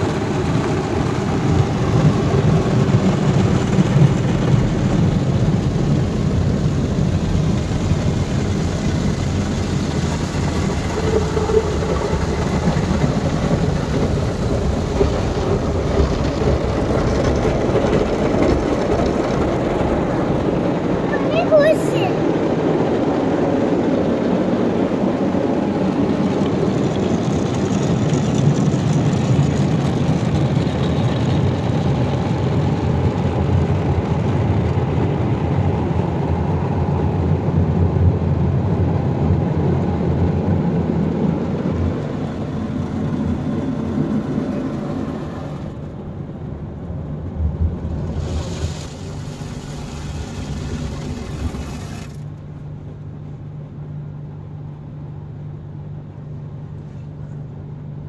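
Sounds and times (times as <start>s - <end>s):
car wash water jets spraying: 0.0s - 53.3s.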